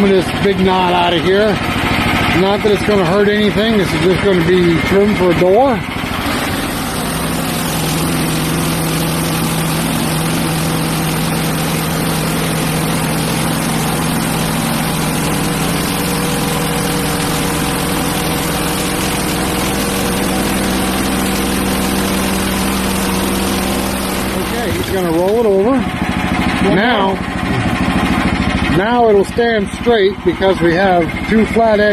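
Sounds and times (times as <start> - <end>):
sawmill engine under load: 0.0 - 31.9
band blade sawing log: 2.4 - 29.0.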